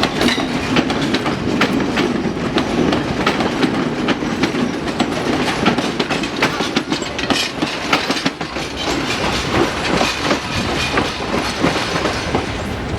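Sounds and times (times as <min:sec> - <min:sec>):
train rumble: 0:00.0 - 0:12.9
train wheels clattering over rail joints: 0:00.0 - 0:12.9.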